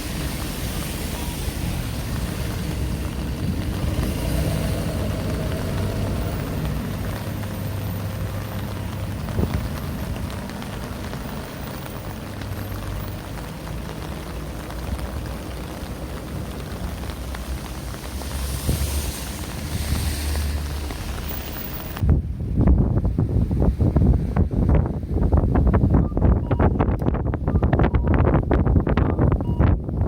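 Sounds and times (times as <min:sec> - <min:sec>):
street ambience hiss: 0:00.0 - 0:27.4
wind buffeting microphone: 0:00.0 - 0:30.0.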